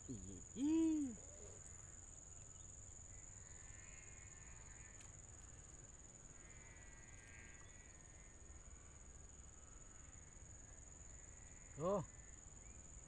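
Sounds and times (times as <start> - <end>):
faint insect calls: 0.0 - 13.0.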